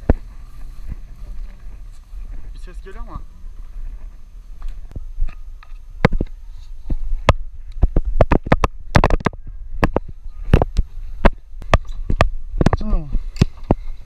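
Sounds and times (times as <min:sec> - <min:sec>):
microphone handling noise: 0:00.0 - 0:02.6, 0:03.2 - 0:14.0
wind rumble on microphone: 0:00.0 - 0:14.0.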